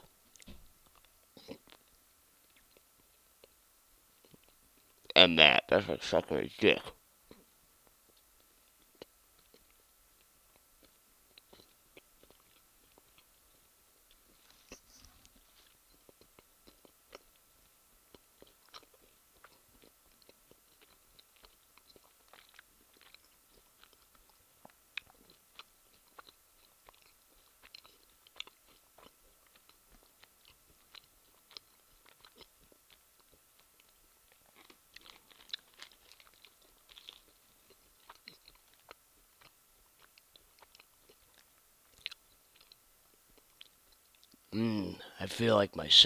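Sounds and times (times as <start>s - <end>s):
mouth chewing clicks and smacks: 0.3s - 3.6s, 7.3s - 44.6s.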